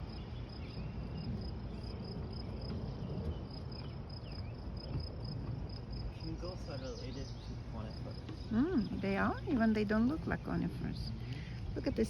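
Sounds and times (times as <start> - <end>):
insect chirping: 0.0 - 12.0
steady low rumble: 0.0 - 12.0.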